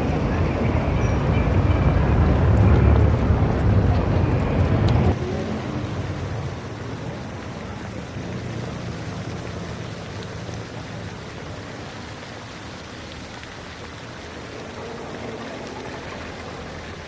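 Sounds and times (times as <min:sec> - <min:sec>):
low traffic rumble: 0:00.0 - 0:17.0
steady rain-like hiss: 0:00.0 - 0:17.0.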